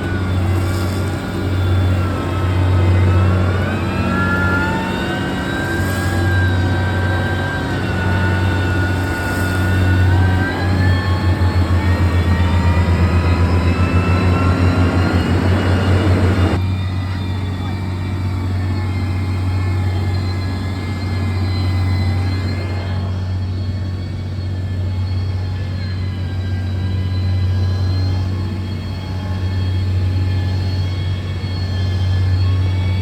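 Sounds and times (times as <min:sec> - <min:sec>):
diesel engine droning with whine: 0:00.0 - 0:33.0.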